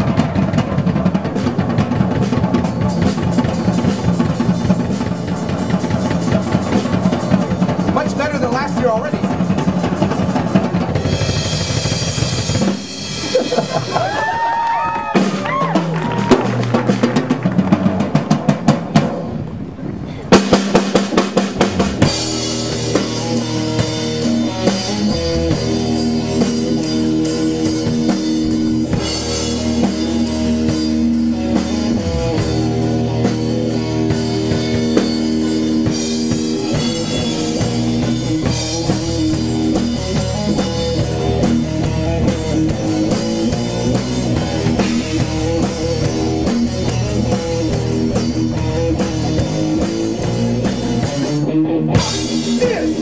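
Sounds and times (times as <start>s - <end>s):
rock band playing: 0.0s - 53.0s
rock drum solo: 0.0s - 53.0s.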